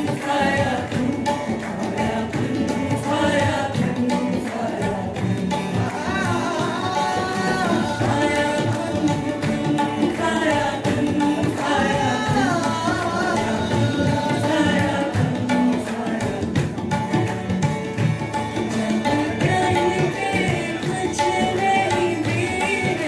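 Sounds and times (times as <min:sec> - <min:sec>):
person singing a melody: 0:00.0 - 0:16.9, 0:18.6 - 0:23.0
harmonium: 0:00.0 - 0:23.0
tabla: 0:00.0 - 0:23.0.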